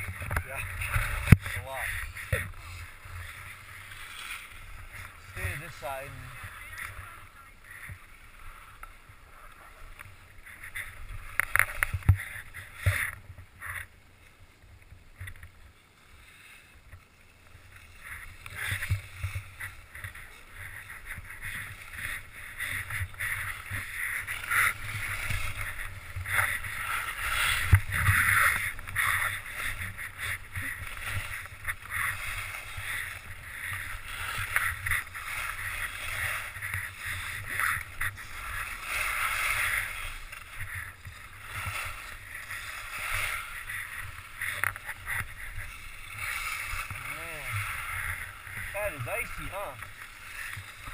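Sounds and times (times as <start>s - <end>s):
ski bumps: 0.0s - 13.9s, 17.6s - 50.9s
wind on helmet: 0.0s - 15.8s, 16.6s - 50.9s
skis scraping over snow: 0.0s - 50.9s.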